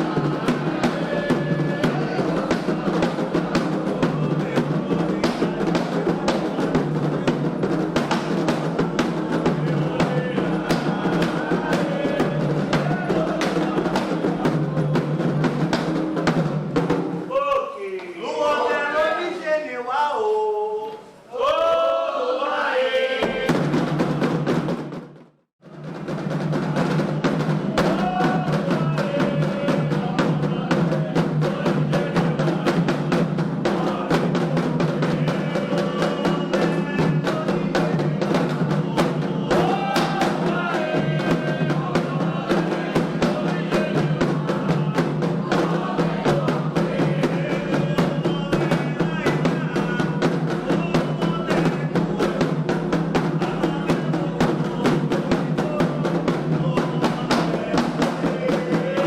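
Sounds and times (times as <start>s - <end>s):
people singing chants: 0.0s - 16.4s, 17.4s - 24.2s, 25.9s - 59.0s
hand drums playing: 0.0s - 18.2s, 23.2s - 59.0s.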